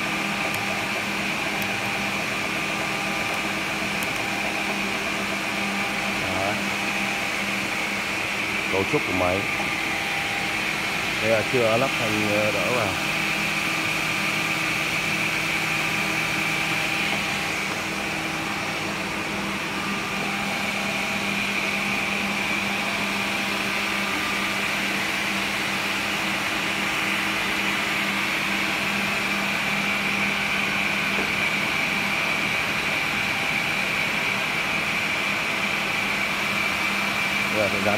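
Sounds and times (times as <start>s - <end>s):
machine motor hum with whine: 0.0s - 37.9s.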